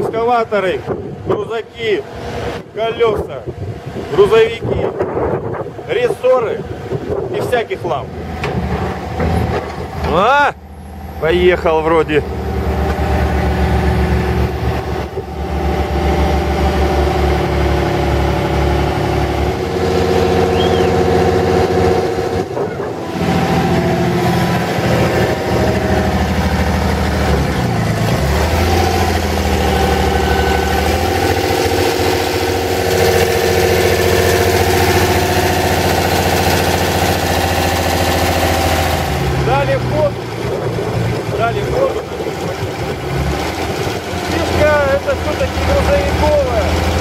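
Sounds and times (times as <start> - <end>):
excavator diesel engine running: 5.6 - 47.0.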